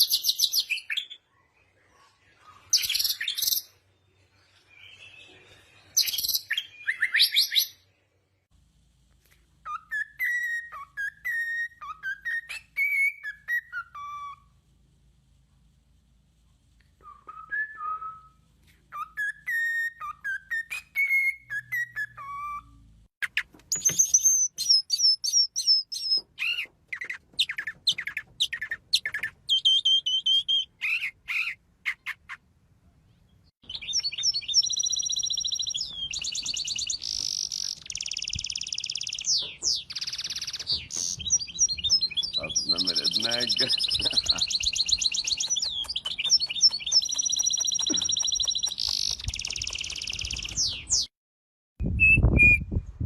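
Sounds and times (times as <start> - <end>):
bird song: 0.0 - 8.5, 9.6 - 14.5, 17.0 - 51.1.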